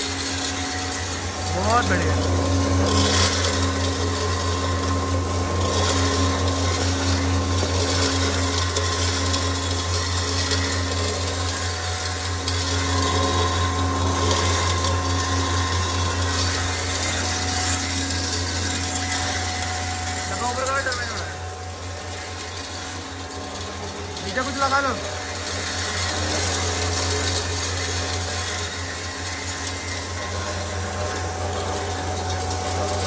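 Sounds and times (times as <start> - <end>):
grinder motor hum: 0.0 - 33.0.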